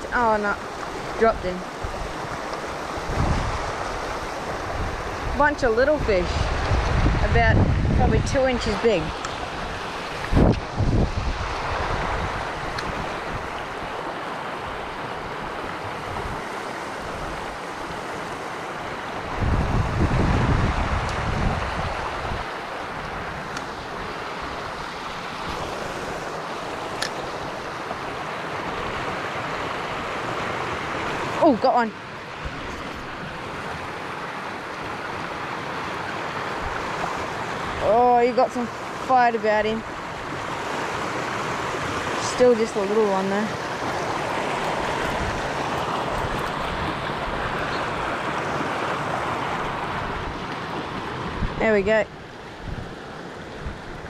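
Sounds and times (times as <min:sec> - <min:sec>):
creek water rushing over rocks: 0:00.0 - 0:54.0.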